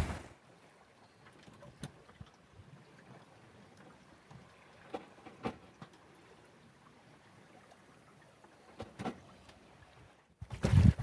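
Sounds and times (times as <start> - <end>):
water and wind wash: 0.0 - 11.0.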